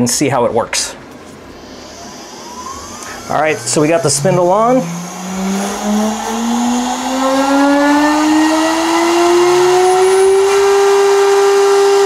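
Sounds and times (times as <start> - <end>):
spindle whine rising in pitch: 1.3 - 12.0.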